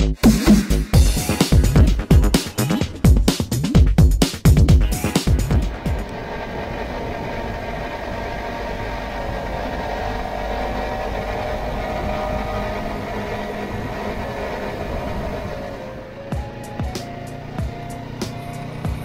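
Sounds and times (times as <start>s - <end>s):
motorcycle engine idling: 1.0s - 11.8s, 12.4s - 19.0s.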